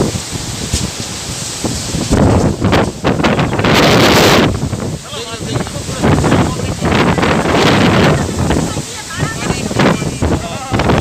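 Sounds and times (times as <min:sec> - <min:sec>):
heavy rain: 0:00.0 - 0:11.0
wind blasting microphone: 0:00.0 - 0:11.0.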